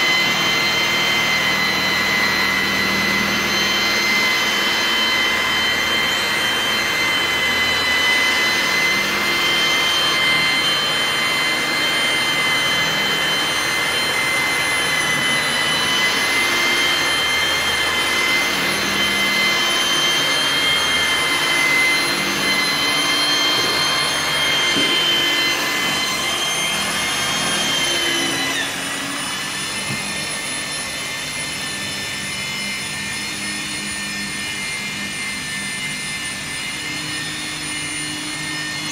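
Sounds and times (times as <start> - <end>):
electric polisher whining: 0.0 - 38.9.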